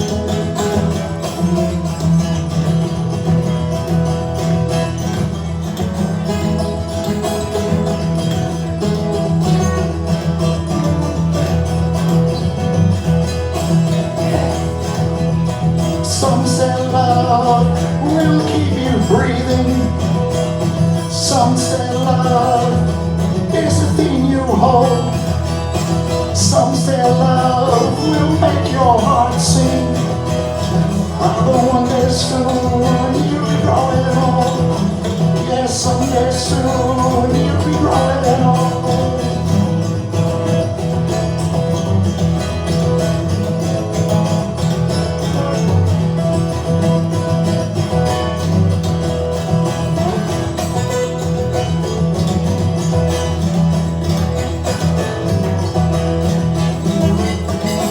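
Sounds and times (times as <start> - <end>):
acoustic guitar accompaniment: 0.0 - 57.9.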